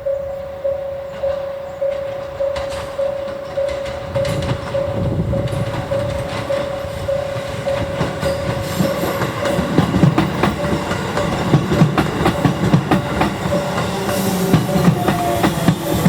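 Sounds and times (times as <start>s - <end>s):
level-crossing warning bell: 0.0s - 16.0s
train wheels clacking over rails: 0.4s - 16.0s.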